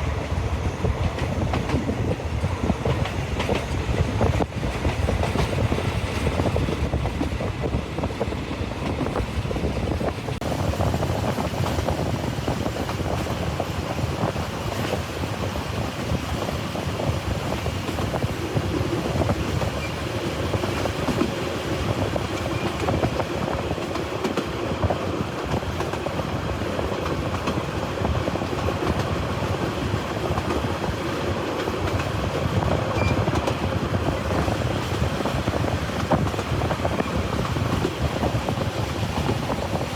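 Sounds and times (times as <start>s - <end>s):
small knocks of train wheels: 0.0s - 39.9s
train rumbling along track: 0.0s - 39.9s.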